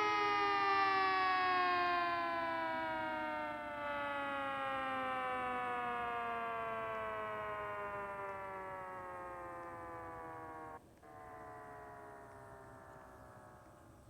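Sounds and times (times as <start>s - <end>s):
tornado siren winding down: 0.0s - 14.0s.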